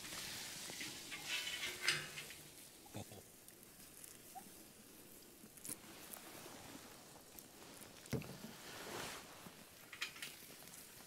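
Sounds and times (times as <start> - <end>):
campfire crackling and sizzling: 0.0 - 11.0.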